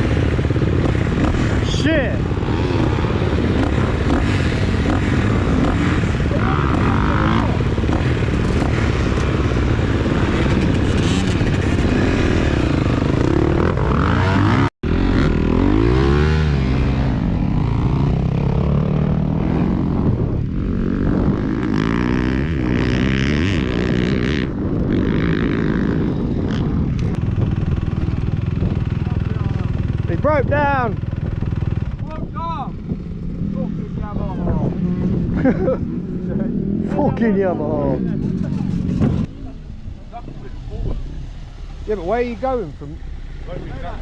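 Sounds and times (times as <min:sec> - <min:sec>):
motocross bike engine revving: 0:00.0 - 0:40.2.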